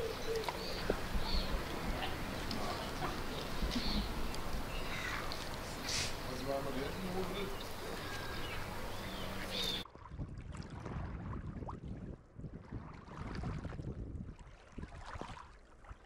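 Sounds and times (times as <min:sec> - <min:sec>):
wind rumbling on microphone: 0:00.0 - 0:06.3, 0:07.5 - 0:16.0
small waves lapping rocks: 0:00.0 - 0:16.0.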